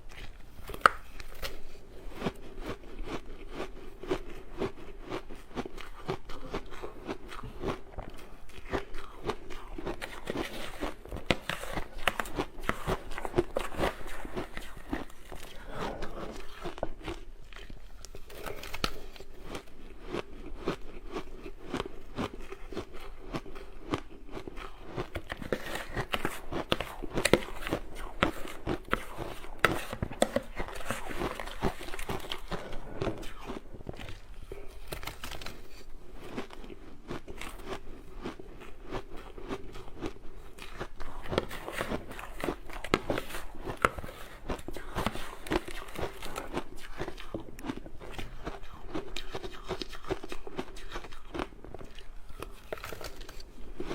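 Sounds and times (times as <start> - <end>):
ice crunching in mouth: 0.0 - 53.9.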